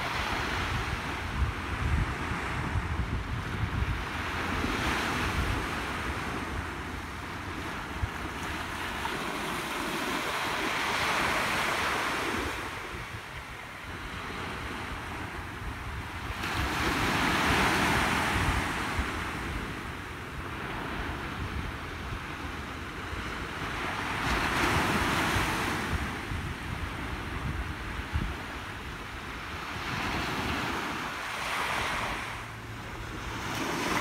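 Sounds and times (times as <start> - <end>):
small waves breaking on beach: 0.0 - 34.0
wind buffeting microphone: 0.0 - 34.0.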